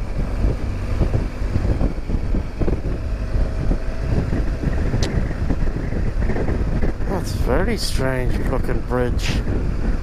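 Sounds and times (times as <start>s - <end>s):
motorcycle engine rumbling: 0.0s - 10.0s
wind rushing over microphone: 0.0s - 10.0s.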